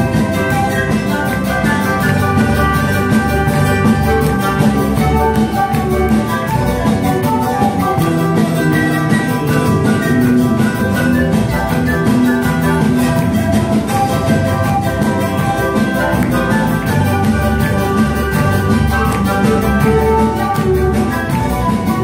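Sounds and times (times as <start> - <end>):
acoustic guitar: 0.0 - 22.0
charango: 0.0 - 22.0
drums: 0.0 - 22.0
panpipes: 0.0 - 22.0.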